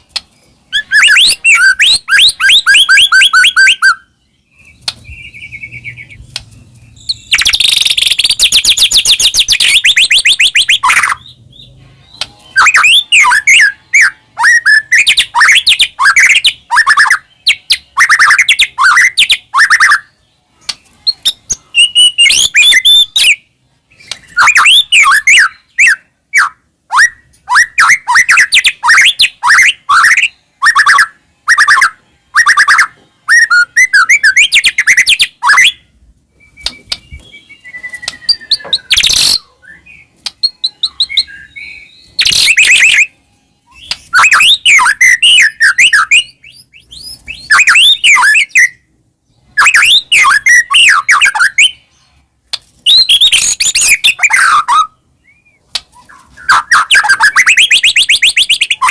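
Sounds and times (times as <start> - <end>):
bird singing whistled phrases: 0.7 - 6.3, 7.0 - 20.2, 21.0 - 35.8, 36.4 - 43.1, 43.7 - 48.8, 49.6 - 51.8, 52.9 - 58.9.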